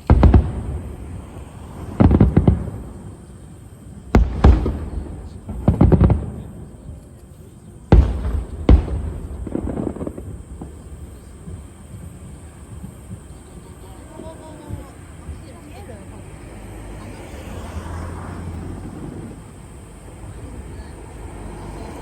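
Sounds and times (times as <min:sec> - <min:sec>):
fireworks booming: 0:00.0 - 0:22.0.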